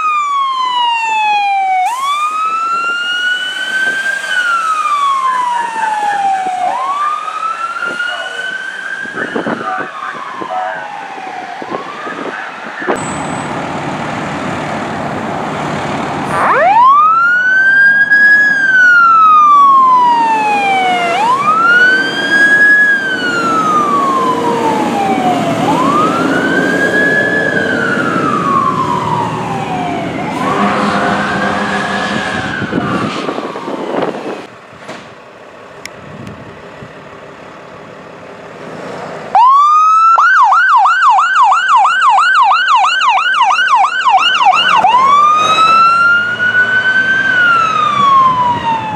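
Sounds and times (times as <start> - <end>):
siren wailing: 0.0 - 13.0, 16.2 - 34.5, 39.4 - 48.9
siren yelping: 0.0 - 13.0, 16.3 - 34.5, 39.4 - 48.9
fire truck diesel engine: 0.0 - 48.9.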